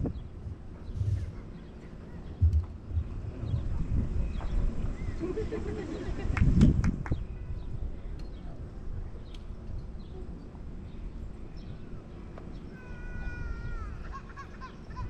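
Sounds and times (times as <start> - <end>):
wind rumble on microphone: 0.0 - 12.0, 12.6 - 14.2.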